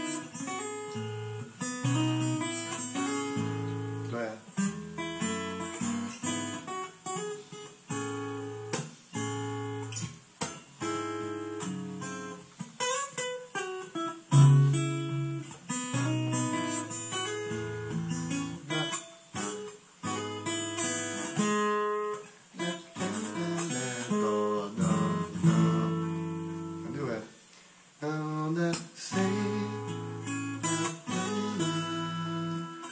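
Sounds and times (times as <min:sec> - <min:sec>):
fingerstyle acoustic guitar: 0:00.0 - 0:32.9.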